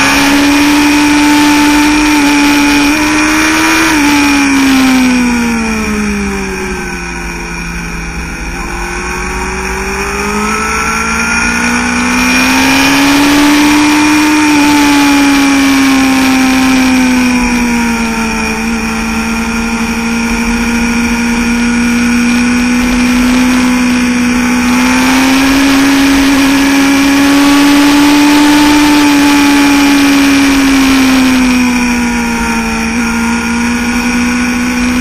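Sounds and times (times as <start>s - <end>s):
motorcycle engine revving: 0.0s - 35.0s
steady rush of wind noise: 0.0s - 35.0s.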